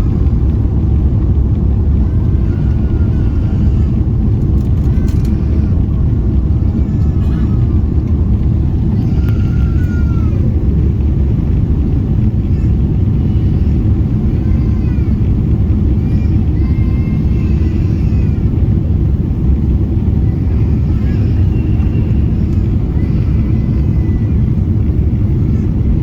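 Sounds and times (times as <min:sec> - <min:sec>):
airplane cabin rumble: 0:00.0 - 0:26.0
faint passenger voices: 0:00.0 - 0:26.0.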